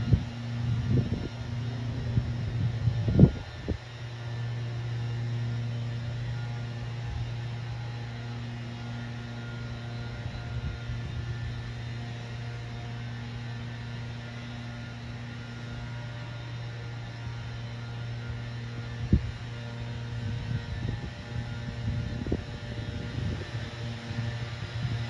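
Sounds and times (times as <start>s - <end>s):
faint steady tones: 0.0s - 25.0s
low hum: 0.0s - 25.0s.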